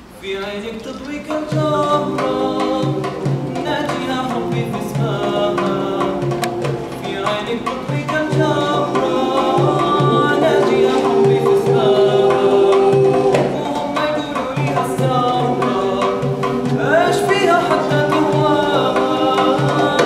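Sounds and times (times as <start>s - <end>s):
man singing: 0.2s - 20.0s
mixed choir singing: 1.2s - 20.0s
hand drum beat: 1.3s - 20.0s.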